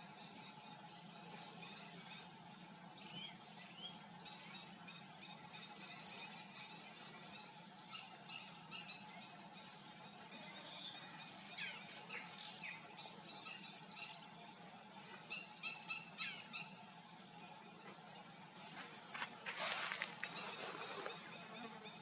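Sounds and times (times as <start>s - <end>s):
birds chirping: 0.0s - 22.0s
low background hum: 0.0s - 22.0s.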